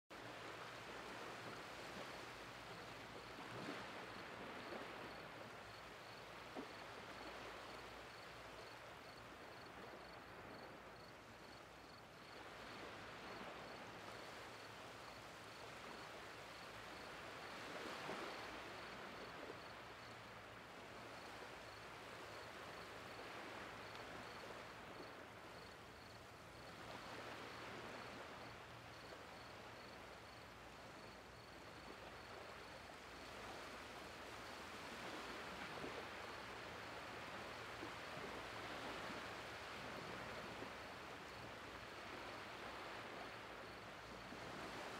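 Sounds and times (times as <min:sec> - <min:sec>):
small waves washing onto beach: 0:00.1 - 0:44.9.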